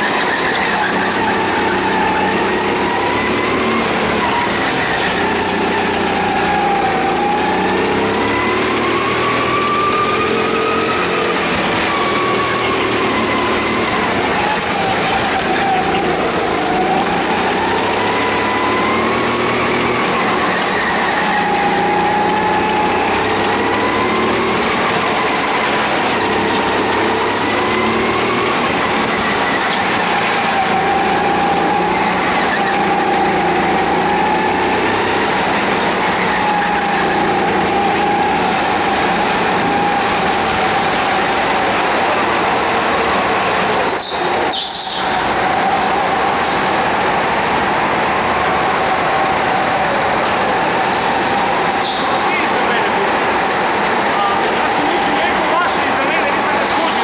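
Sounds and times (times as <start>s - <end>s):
constant rush of noise: 0.0s - 57.0s
go-kart motor whining: 0.0s - 57.0s.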